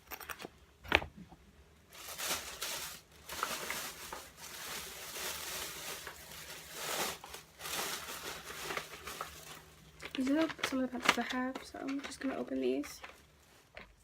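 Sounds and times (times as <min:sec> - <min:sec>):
plastic packaging rustling: 0:01.9 - 0:13.8.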